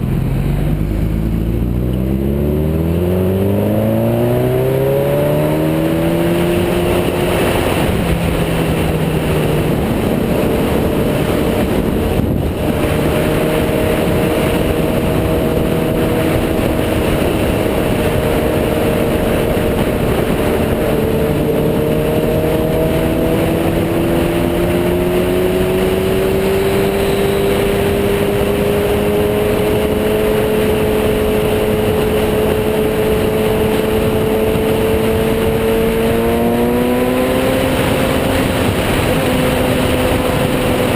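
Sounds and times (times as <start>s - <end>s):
motorcycle engine cruising: 0.0s - 40.9s
rushing wind noise: 0.0s - 40.9s.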